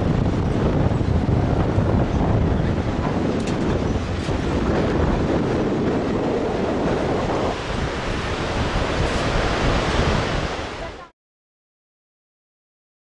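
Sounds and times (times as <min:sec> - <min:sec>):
whitewater river rushing: 0:00.0 - 0:11.1
wind buffeting microphone: 0:00.0 - 0:11.1.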